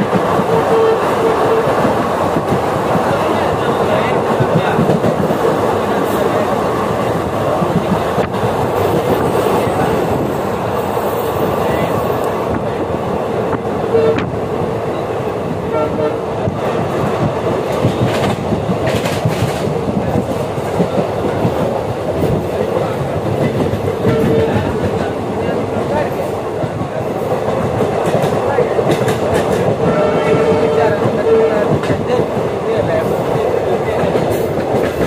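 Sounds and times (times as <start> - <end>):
train wheels rumbling and rattling: 0.0 - 35.0.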